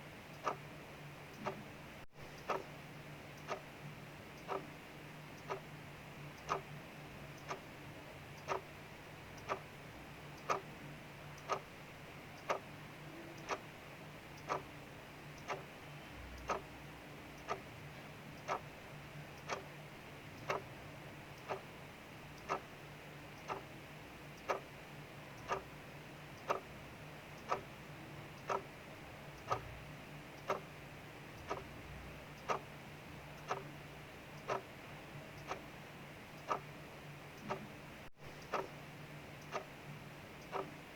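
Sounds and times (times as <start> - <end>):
clock ticking: 0.2 - 40.9.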